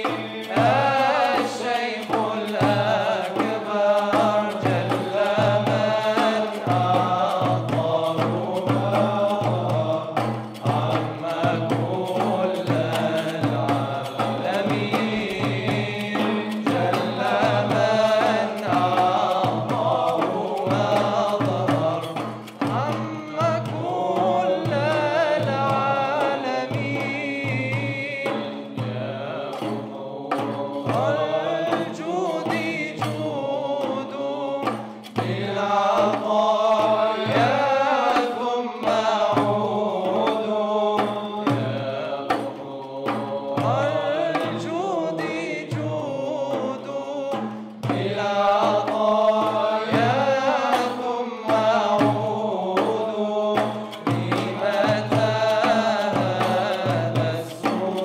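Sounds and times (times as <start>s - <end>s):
frame drums beating: 0.0s - 58.0s
low held vocal drone: 0.0s - 58.0s
male ensemble singing: 0.0s - 58.0s.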